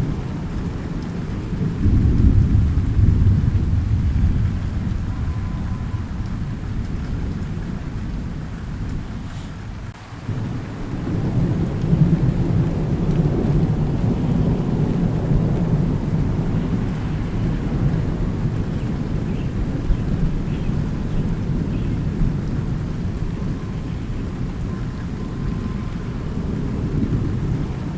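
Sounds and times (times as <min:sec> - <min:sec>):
low rolling thunder: 0:00.0 - 0:27.9
steady rain: 0:00.0 - 0:27.9.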